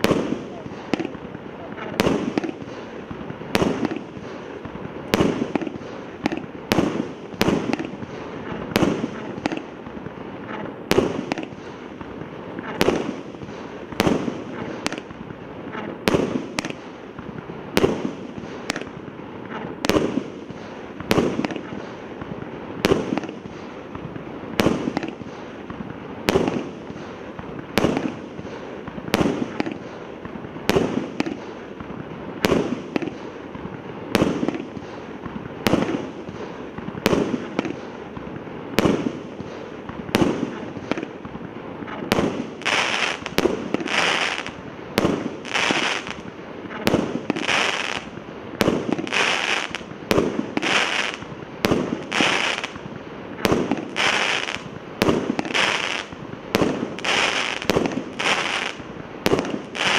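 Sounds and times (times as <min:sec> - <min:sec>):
crackle of sparks: 0:00.0 - 0:59.9
fireworks bursts: 0:00.0 - 0:59.9.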